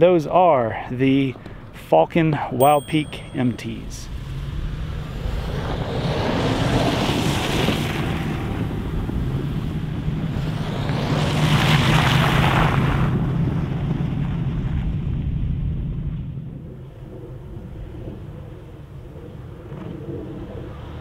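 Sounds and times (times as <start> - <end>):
road and wind noise: 3.7 - 21.0.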